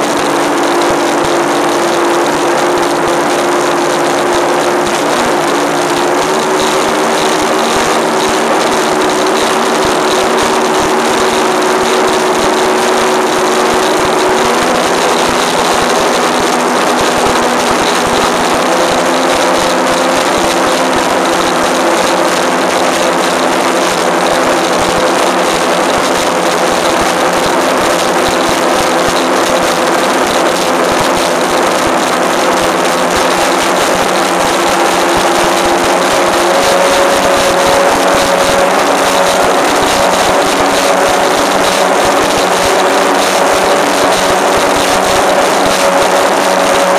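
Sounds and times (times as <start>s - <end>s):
boat engine running: 0.0s - 46.9s
rush of wind and water: 0.0s - 46.9s.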